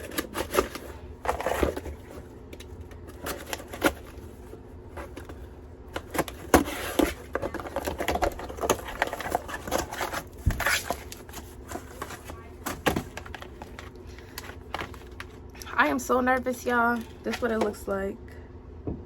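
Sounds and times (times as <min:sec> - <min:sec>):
packaging crinkling and rustling: 0:00.0 - 0:15.4.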